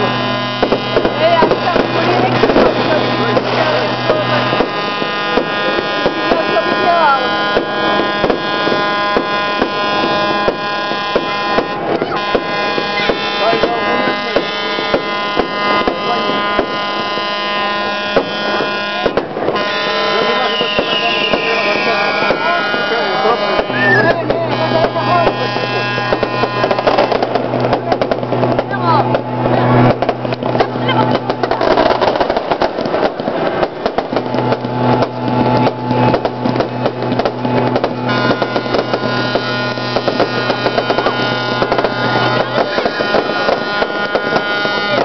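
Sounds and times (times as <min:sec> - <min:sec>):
fireworks bangs and cracks: 0:00.0 - 0:45.0.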